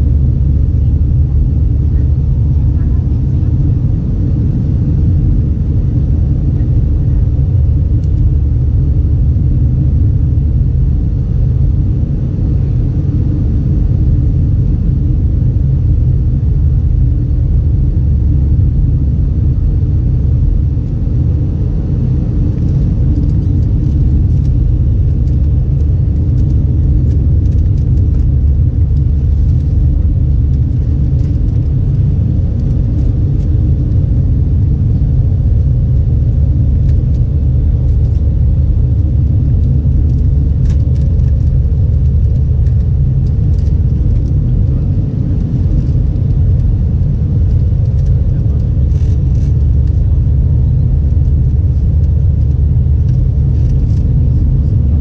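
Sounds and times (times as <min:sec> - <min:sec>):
vehicle interior rumble: 0:00.0 - 0:55.0.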